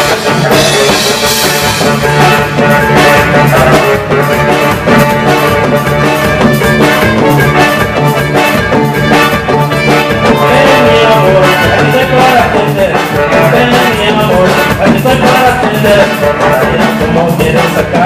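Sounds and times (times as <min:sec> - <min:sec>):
band instrumental music: 0:00.0 - 0:18.0.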